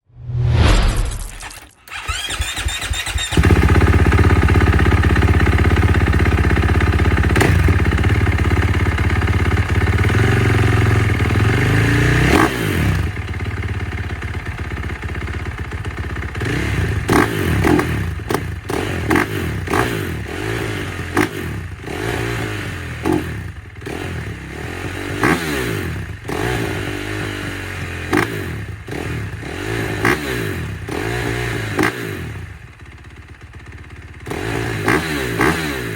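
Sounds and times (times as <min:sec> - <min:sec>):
motorcycle engine revving: 0:01.4 - 0:35.9
motorcycle engine idling: 0:01.9 - 0:25.2, 0:25.9 - 0:35.9.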